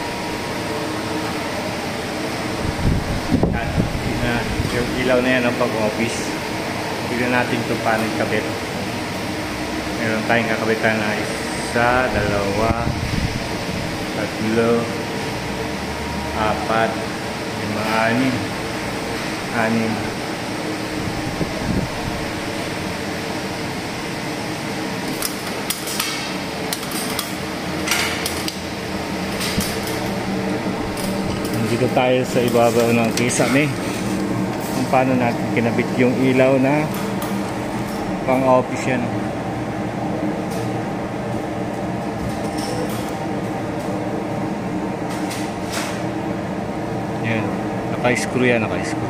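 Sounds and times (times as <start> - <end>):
steady background hum: 0.0 - 49.0.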